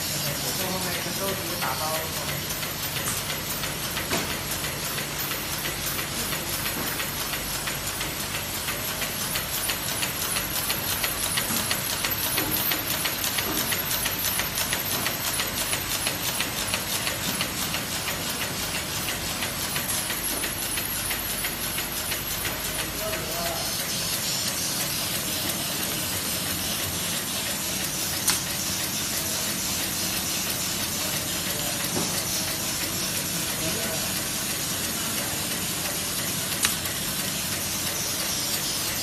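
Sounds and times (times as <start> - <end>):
machine rapid clatter: 0.0 - 39.0.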